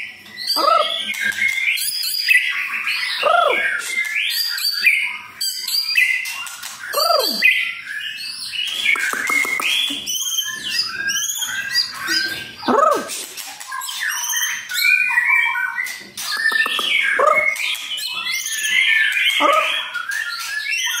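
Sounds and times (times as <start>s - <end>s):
songbird singing whistles: 0.0s - 21.0s.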